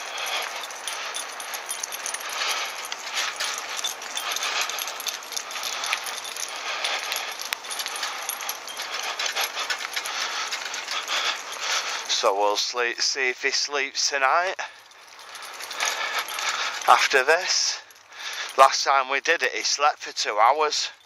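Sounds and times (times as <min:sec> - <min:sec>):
bicycle clinking and rattling: 0:00.0 - 0:13.1, 0:14.6 - 0:18.8.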